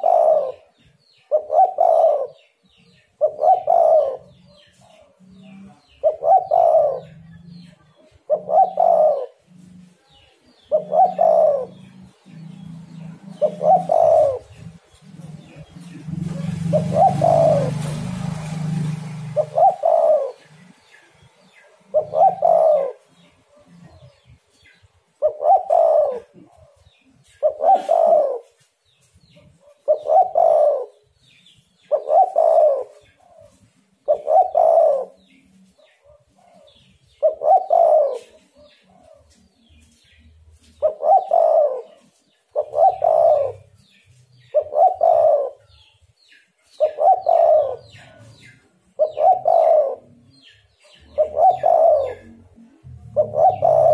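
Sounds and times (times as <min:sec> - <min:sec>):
dove cooing: 0:00.0 - 0:45.9, 0:46.6 - 0:53.9.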